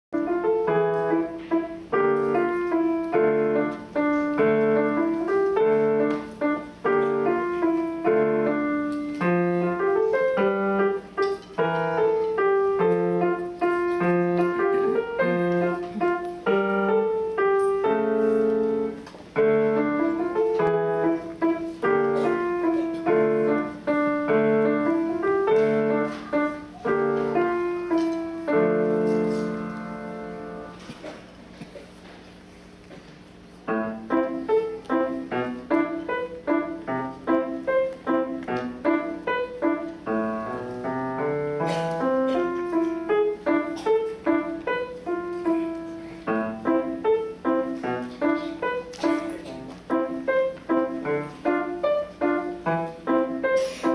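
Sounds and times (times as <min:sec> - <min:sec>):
solo grand piano: 0:00.1 - 0:53.9.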